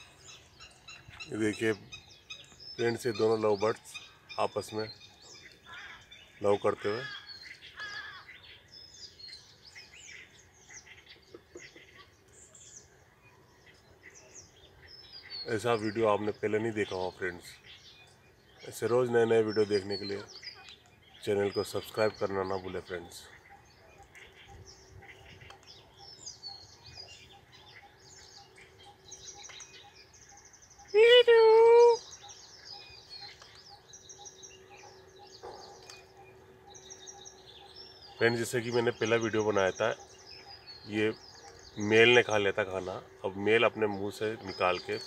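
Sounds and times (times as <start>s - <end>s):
faint birds chirping: 0.0s - 45.0s.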